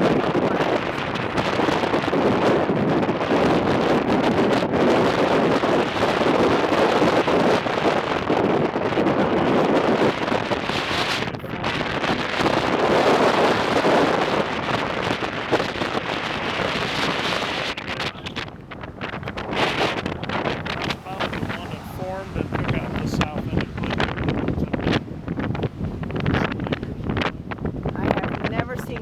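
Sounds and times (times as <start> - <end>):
gusty wind on microphone: 0.0 - 29.0.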